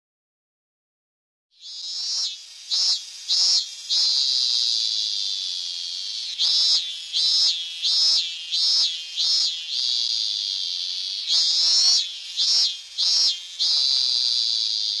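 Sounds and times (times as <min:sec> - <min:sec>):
cicada buzzing song: 0:01.5 - 0:15.0.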